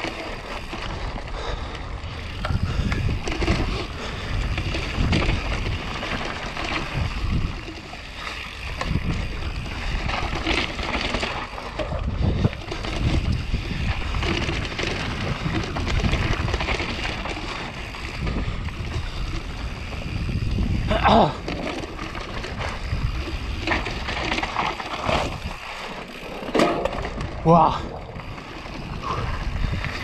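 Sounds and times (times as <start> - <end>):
bike rattling and knocking: 0.0 - 30.0
tyres rolling on dirt: 0.0 - 30.0
wind rushing over microphone: 0.0 - 30.0.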